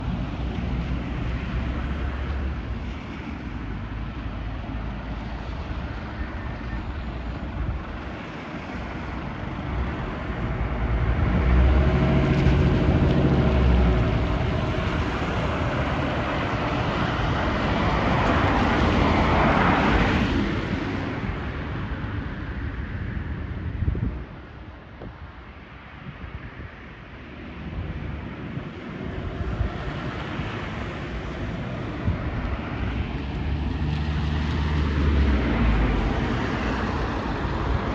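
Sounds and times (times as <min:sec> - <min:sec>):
fire engine diesel engine: 0:00.0 - 0:25.3, 0:27.4 - 0:37.9
tyre and road noise: 0:00.0 - 0:37.9.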